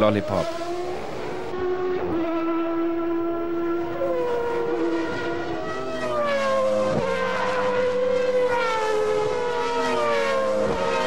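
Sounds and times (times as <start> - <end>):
racing car engine at high revs: 0.1 - 11.0.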